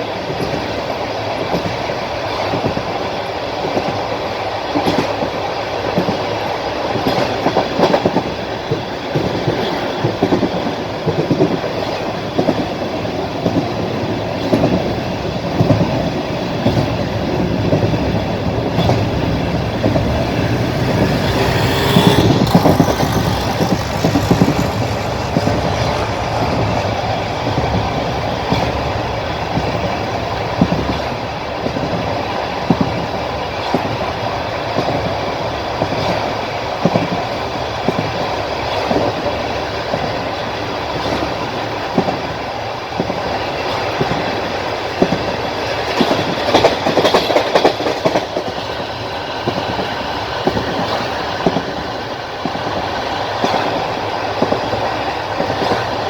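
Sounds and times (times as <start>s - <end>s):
train rumbling: 0.0s - 56.0s
wheels clacking over rail joints: 4.7s - 56.0s.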